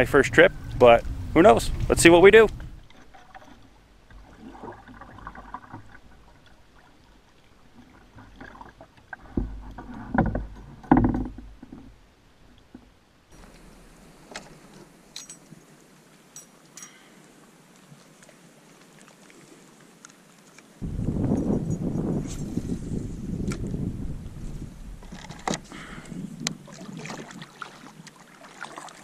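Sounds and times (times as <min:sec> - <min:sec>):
paddle strokes splashing: 0:00.0 - 0:10.7, 0:13.3 - 0:20.9, 0:22.0 - 0:29.0.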